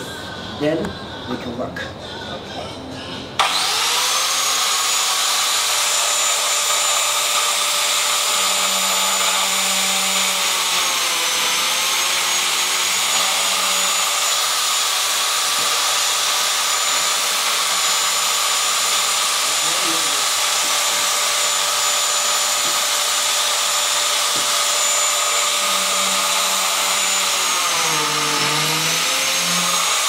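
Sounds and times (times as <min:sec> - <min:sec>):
biscuit jointer motor whine: 0:03.4 - 0:30.0
blade cutting into wood: 0:03.4 - 0:30.0.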